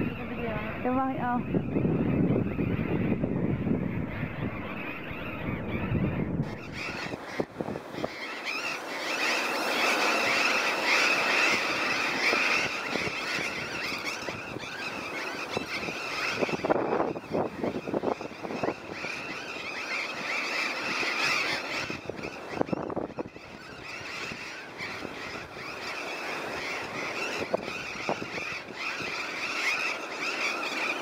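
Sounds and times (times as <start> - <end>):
parrots screeching: 3.8 - 31.0.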